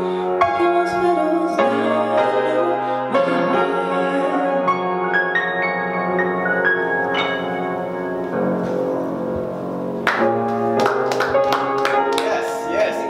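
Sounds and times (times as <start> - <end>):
solo piano chords: 0.0 - 13.0.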